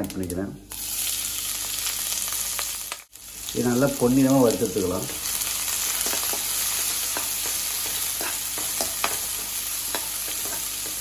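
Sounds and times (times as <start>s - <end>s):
onions sizzling in hot oil: 0.7s - 11.0s.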